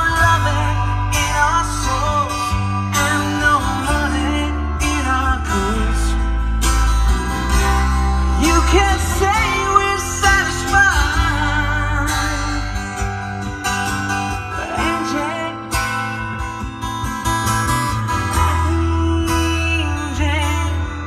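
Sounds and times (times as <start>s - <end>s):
song with acoustic guitar and bass: 0.0s - 21.0s.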